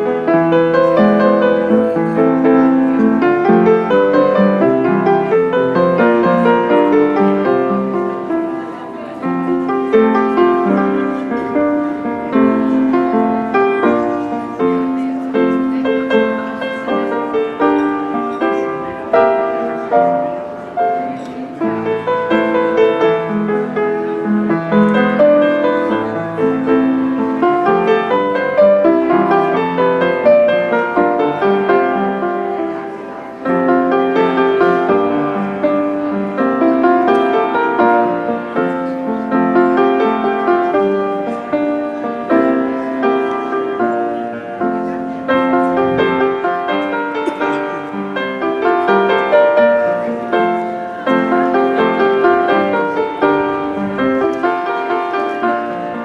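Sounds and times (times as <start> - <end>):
piano playing quick notes: 0.0 - 56.0.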